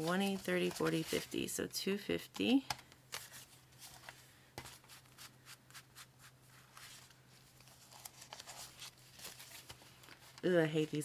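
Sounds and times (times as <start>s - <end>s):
banknotes rustling: 0.0s - 1.5s, 3.1s - 11.0s.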